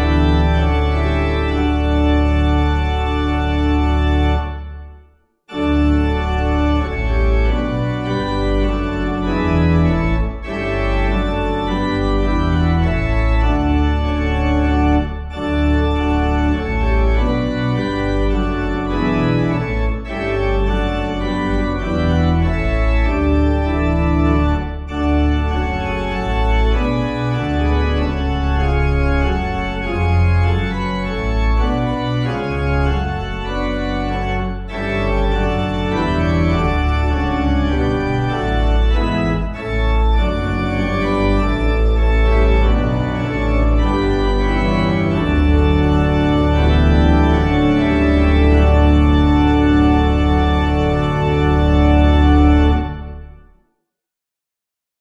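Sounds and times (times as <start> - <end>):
organ playing hymn chords: 0.0 - 53.6.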